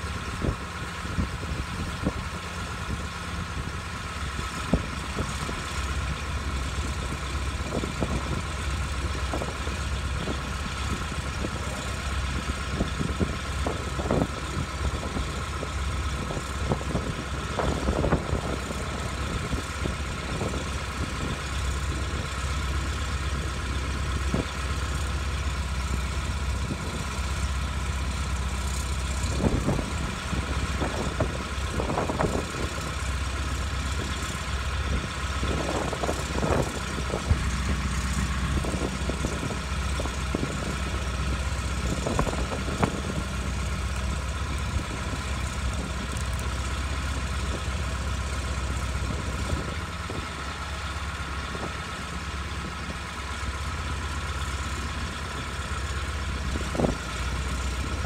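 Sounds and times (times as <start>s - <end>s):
crane engine running: 0.0s - 58.0s.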